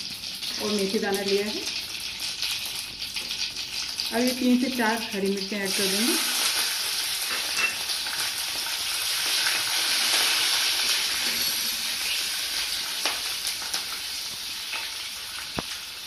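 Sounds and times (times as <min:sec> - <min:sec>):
chillies sizzling in hot oil: 0:00.0 - 0:16.0.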